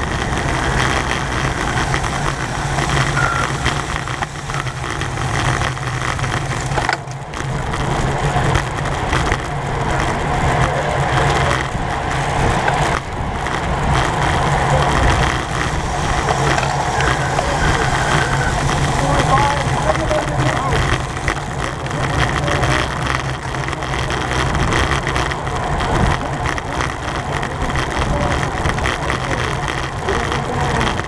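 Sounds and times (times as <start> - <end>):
tyre and road rumble: 0.0 - 31.0.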